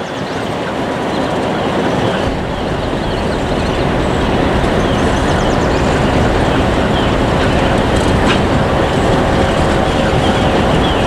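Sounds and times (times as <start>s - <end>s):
diesel locomotive approaching: 0.0s - 11.0s.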